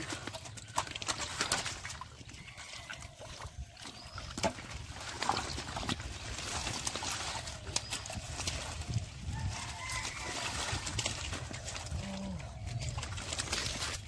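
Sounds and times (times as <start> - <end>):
hands sloshing in muddy water: 0.0 - 14.0
short splashes and crackles: 0.0 - 14.0
leaves rustling: 2.4 - 14.0.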